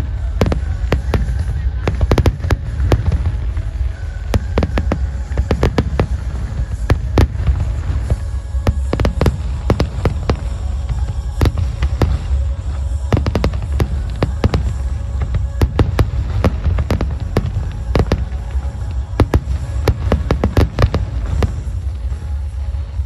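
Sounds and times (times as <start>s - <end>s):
fireworks cracks and pops: 0.0s - 23.0s.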